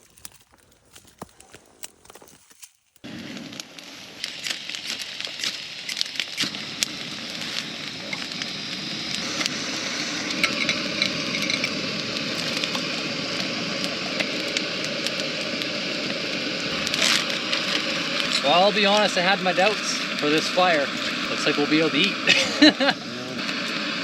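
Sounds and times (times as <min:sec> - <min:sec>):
campfire crackling and popping: 0:00.0 - 0:24.0
steaks sizzling: 0:03.0 - 0:24.0.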